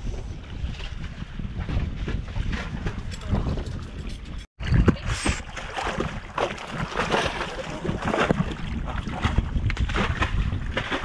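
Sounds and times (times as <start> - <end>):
water sounds: 0.0 - 11.0
wind rumbling on microphone: 0.0 - 11.0.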